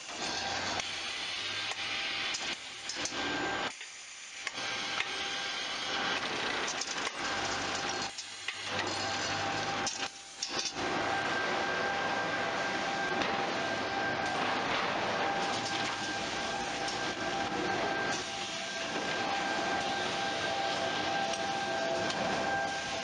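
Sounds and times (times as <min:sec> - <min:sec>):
packing machinery running: 0:04.4 - 0:23.0.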